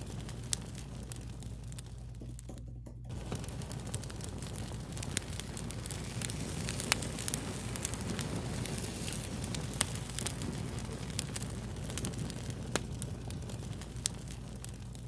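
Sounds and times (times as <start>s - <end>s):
low rumble of fire: 0.0s - 2.5s, 3.1s - 15.0s
fire popping: 0.0s - 15.0s.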